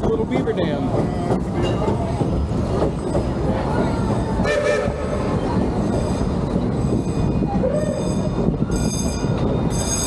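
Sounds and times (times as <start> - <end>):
train car rolling rumble: 0.0 - 10.0
train wheels squealing on rails: 1.6 - 10.0.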